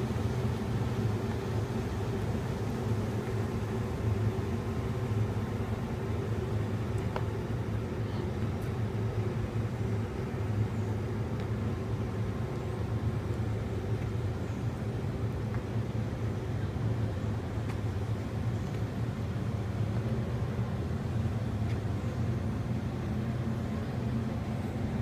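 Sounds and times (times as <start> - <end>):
constant low hum: 0.0 - 25.0
distant traffic drone: 0.0 - 25.0.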